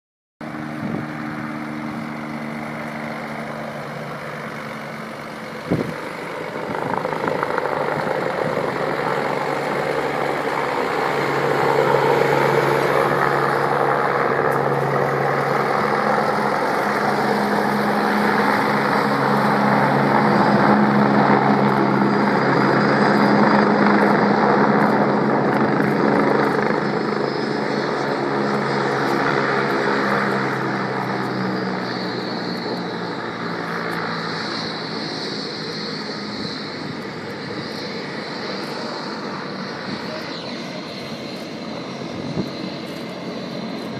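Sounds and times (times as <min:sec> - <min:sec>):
helicopter engine and rotor drone: 0:00.4 - 0:43.9.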